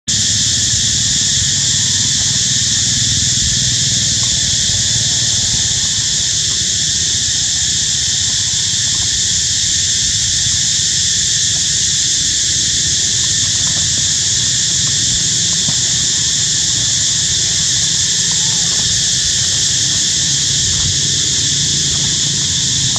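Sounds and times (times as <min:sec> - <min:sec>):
cicadas droning: 0:00.0 - 0:22.9.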